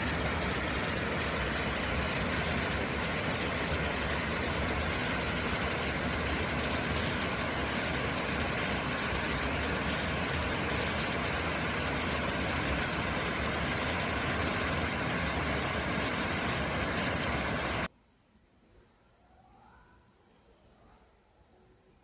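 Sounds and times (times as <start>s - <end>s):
stream water rushing: 0.0s - 17.9s.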